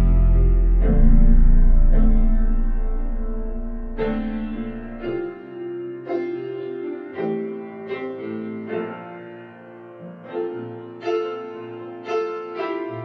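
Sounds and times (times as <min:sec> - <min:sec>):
slow solo piano: 0:00.0 - 0:13.0.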